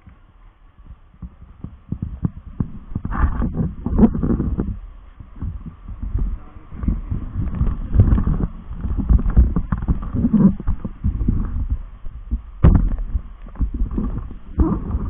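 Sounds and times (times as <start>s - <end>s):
microphone handling thumps: 0.8s - 15.0s.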